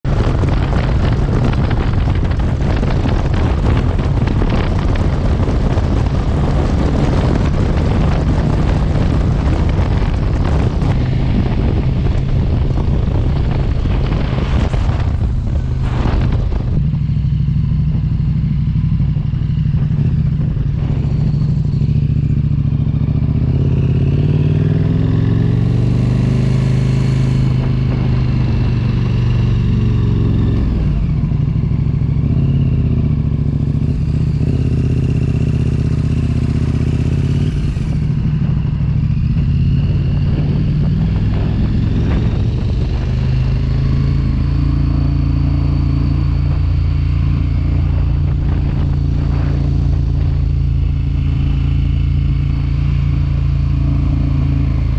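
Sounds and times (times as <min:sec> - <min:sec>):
vehicle engine running: 0:00.0 - 0:54.9
wind rush on microphone: 0:00.0 - 0:54.9.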